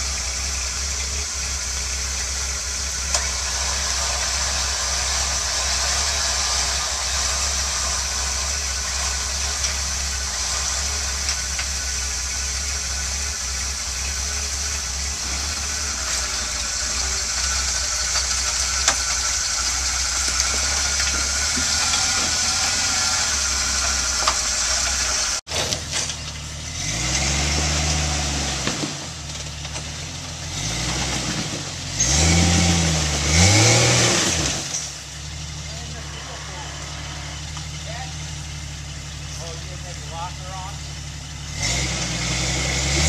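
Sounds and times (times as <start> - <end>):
engine idling: 0.0 - 43.0
engine revving: 0.0 - 43.0.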